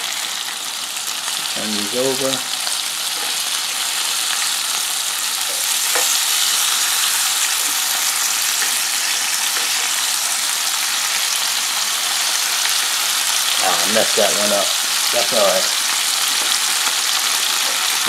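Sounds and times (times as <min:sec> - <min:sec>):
burger patties sizzling on a grill: 0:00.0 - 0:18.0.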